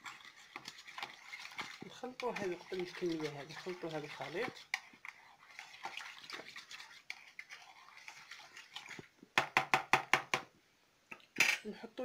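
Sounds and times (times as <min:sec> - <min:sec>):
spoon stirring liquid in a bowl: 0:00.0 - 0:10.5.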